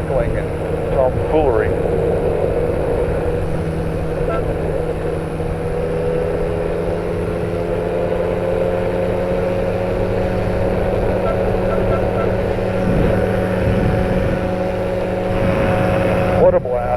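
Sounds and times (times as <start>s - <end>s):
engine and propeller drone: 0.0s - 16.9s.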